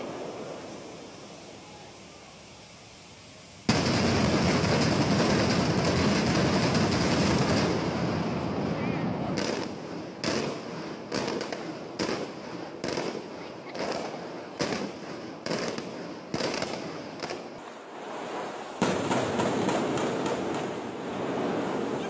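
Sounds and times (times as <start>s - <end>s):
fireworks bangs: 0.0s - 2.4s, 3.6s - 22.0s
fireworks crackle: 0.0s - 22.0s
steady rushing noise: 0.0s - 22.0s.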